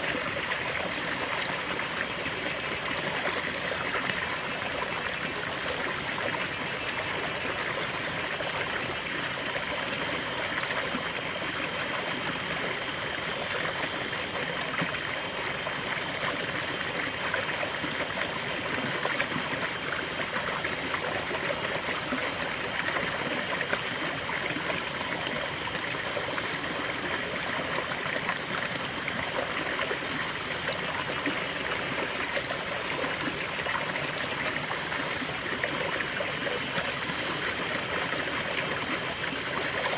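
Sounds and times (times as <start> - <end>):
waterfall and stream flowing: 0.0 - 39.9.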